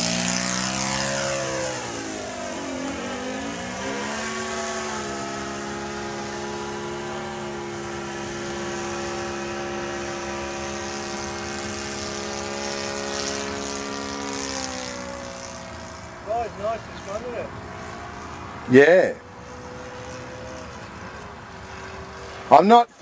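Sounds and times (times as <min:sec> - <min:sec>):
model plane engine drone: 0:00.0 - 0:23.0.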